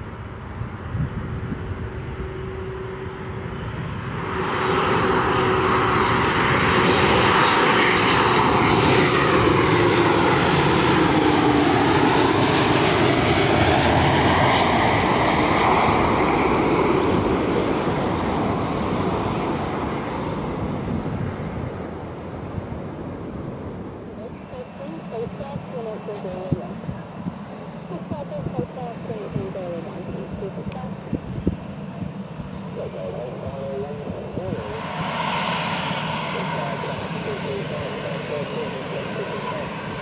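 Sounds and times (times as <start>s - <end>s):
plane engines passing by: 0.0s - 40.0s.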